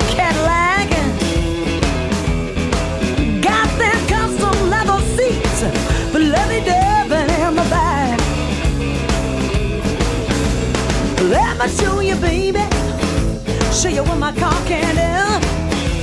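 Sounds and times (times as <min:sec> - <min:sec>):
blues-rock band playing: 0:00.0 - 0:16.0
lead guitar bent notes: 0:00.0 - 0:16.0.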